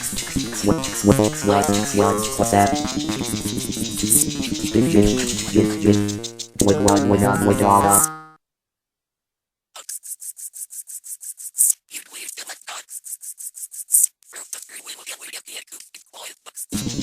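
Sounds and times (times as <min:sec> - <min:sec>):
scratchy shaker percussion: 0:00.0 - 0:08.2, 0:09.8 - 0:17.0.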